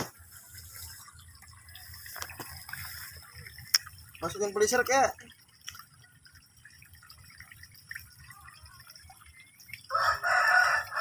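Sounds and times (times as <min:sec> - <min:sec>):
small splashes: 0:00.0 - 0:11.0
water dripping into pond: 0:00.0 - 0:11.0.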